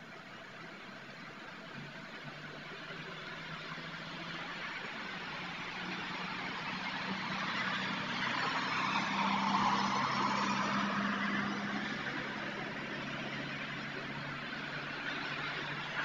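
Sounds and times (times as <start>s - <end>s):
car driving past: 1.9s - 16.0s.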